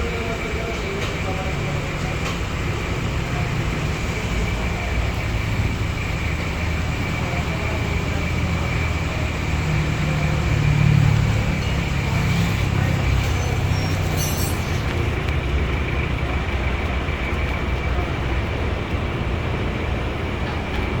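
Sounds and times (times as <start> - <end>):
diesel engine running: 0.0 - 21.0
high engine whine: 0.0 - 21.0.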